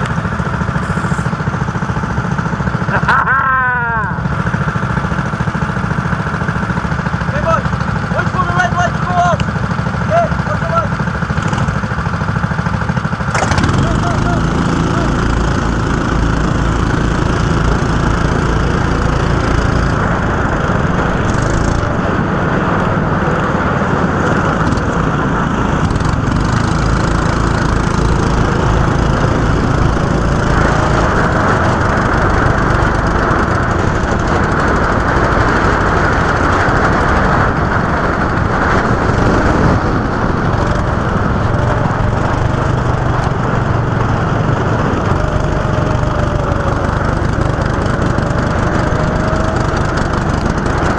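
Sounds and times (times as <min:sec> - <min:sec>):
go-kart engine droning: 0:00.0 - 0:50.9.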